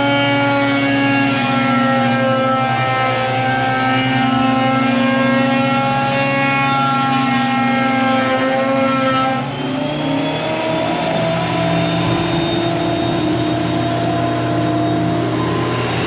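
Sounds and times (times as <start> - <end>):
thickness planer whining: 0.0 - 16.0.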